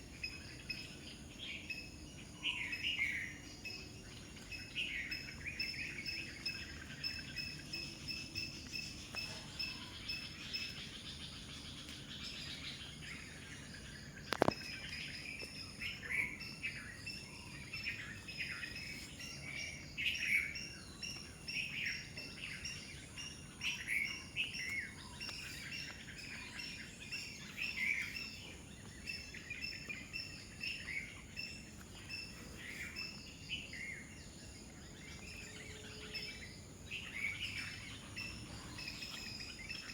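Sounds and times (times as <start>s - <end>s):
birds chirping: 0.0s - 39.9s
insect drone: 0.0s - 39.9s.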